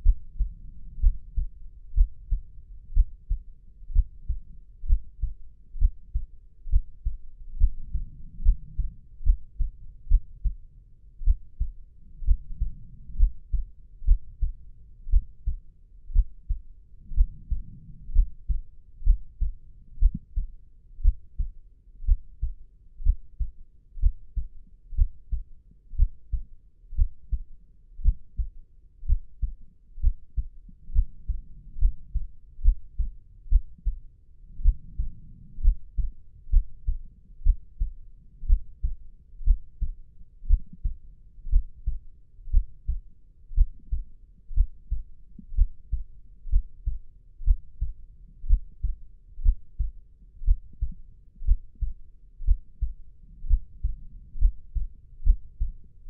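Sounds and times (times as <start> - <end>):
human heartbeat thumps: 0.0 - 10.6, 11.2 - 26.4, 27.0 - 34.0, 34.6 - 55.8.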